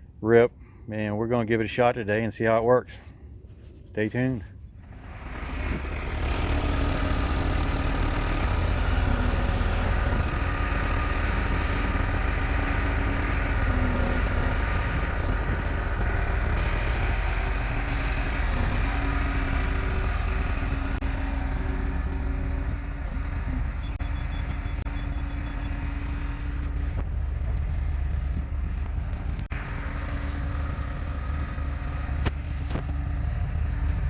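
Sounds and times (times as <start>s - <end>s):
engine rumbling: 0.0s - 34.0s.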